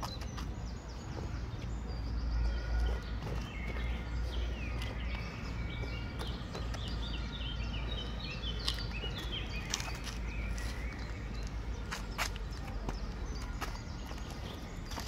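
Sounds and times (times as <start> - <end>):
shoes tapping on pavement: 0.0 - 15.0
small birds singing: 0.0 - 15.0.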